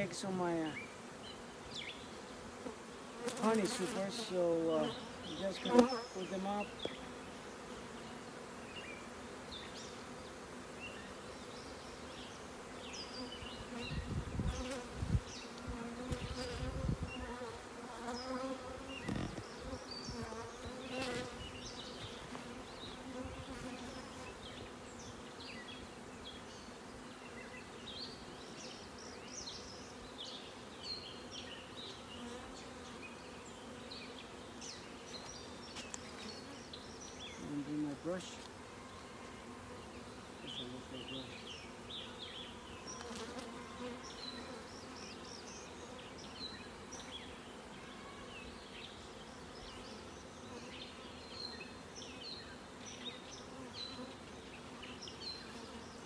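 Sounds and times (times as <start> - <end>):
honey bees buzzing: 0.0 - 56.0.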